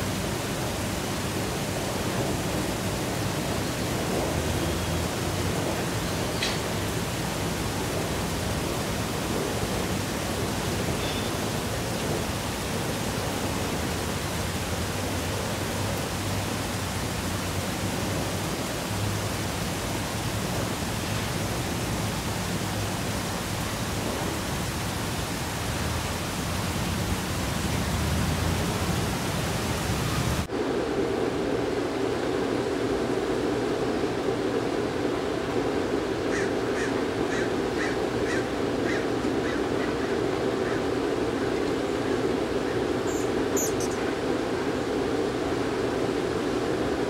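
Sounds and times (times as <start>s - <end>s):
rushing outdoor hiss: 0.0s - 47.0s.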